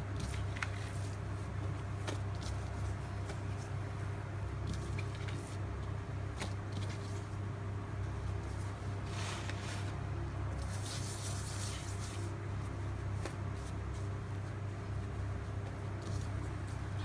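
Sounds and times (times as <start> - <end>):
hands rubbing dough on worktop: 0.0 - 17.0
steady low hum: 0.0 - 17.0.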